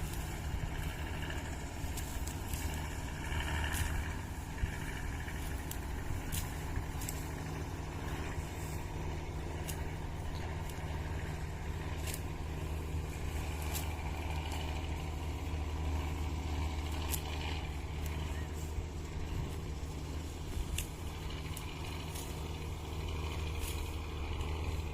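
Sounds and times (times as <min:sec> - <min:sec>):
harvesting machine engine running: 0:00.0 - 0:24.9.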